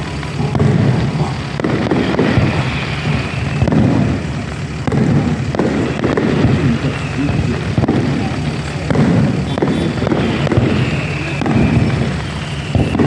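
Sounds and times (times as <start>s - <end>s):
booming shells rumble: 0.0s - 13.0s
fireworks bangs: 0.0s - 13.0s.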